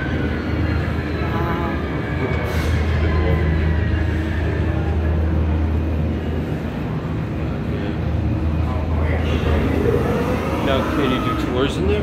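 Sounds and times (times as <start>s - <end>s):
loud low rumbling hum: 0.0s - 12.0s
noisy background din: 0.0s - 12.0s.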